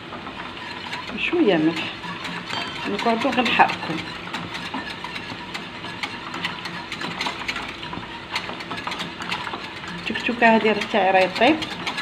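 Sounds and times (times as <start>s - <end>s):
whisk clicking against saucepan: 0.1s - 12.0s.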